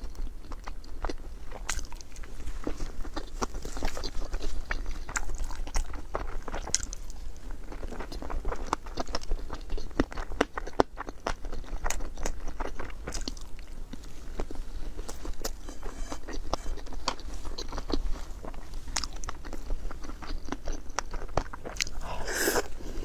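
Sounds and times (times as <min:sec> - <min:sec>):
chewing and biting food: 0:00.0 - 0:15.8, 0:17.6 - 0:23.0.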